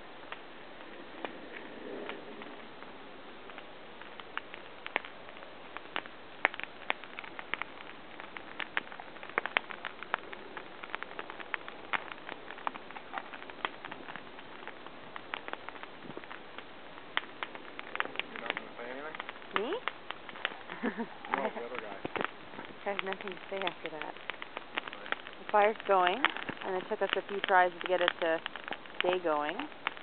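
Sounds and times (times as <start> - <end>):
campfire crackling: 0.0 - 30.0
low fire hiss: 0.0 - 30.0.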